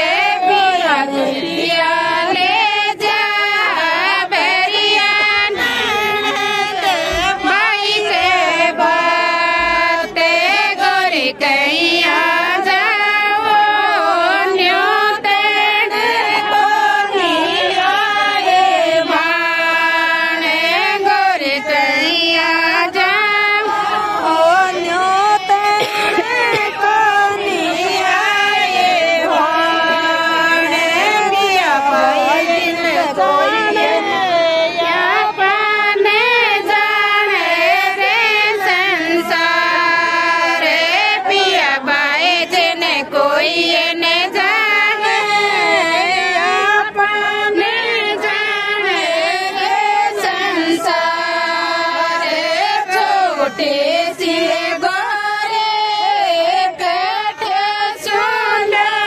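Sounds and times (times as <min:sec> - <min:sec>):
women singing folk song together: 0:00.0 - 0:59.0.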